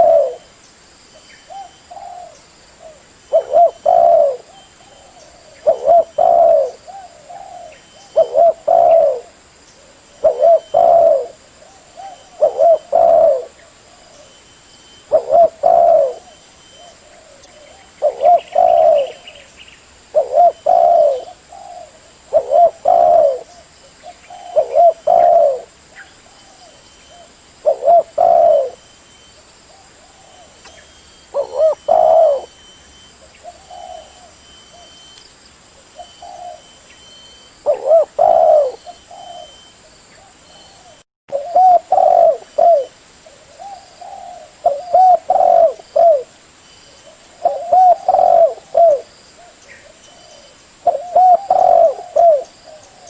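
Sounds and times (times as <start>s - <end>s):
dove cooing: 0.0s - 0.5s, 1.5s - 14.4s, 15.0s - 19.5s, 20.1s - 29.0s, 29.7s - 35.1s, 36.0s - 53.0s.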